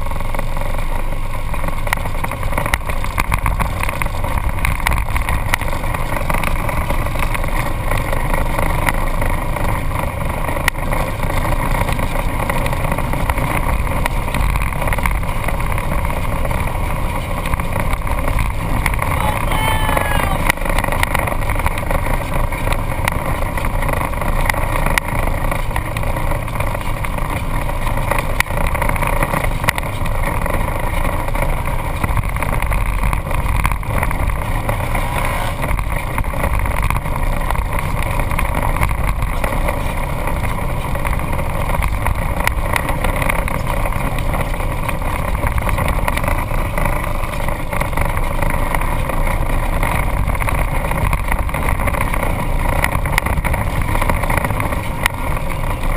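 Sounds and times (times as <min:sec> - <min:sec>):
off-road vehicle engine running: 0:00.0 - 0:55.9.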